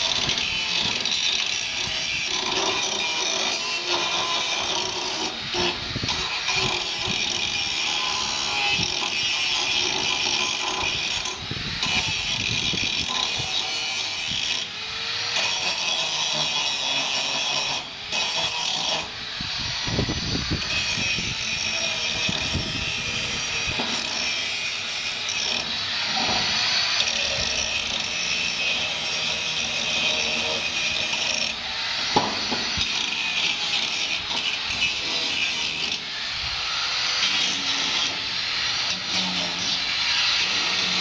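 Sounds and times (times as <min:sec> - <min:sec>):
angle grinder grinding steel: 0:00.0 - 0:41.0.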